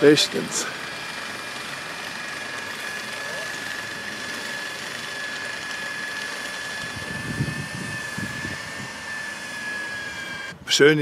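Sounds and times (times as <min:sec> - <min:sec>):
small motor whining: 0:00.0 - 0:10.8.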